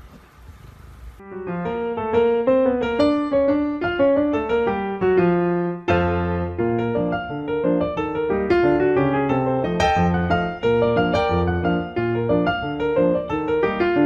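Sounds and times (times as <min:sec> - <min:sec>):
piano music: 0:01.2 - 0:14.0.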